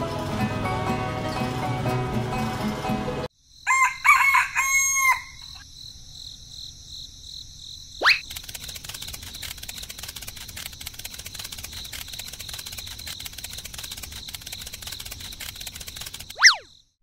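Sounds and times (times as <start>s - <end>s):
crickets chirring: 3.3s - 17.0s.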